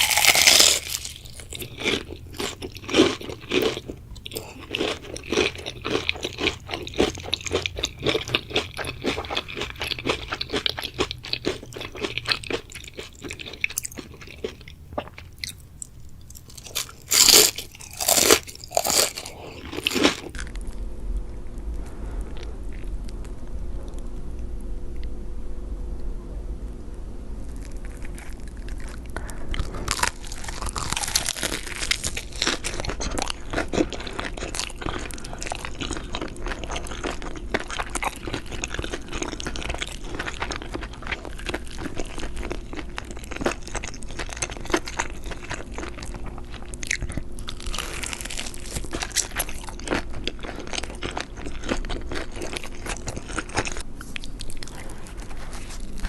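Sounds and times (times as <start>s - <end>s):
crunching and chewing crisp food: 0.0s - 20.8s, 27.4s - 56.0s.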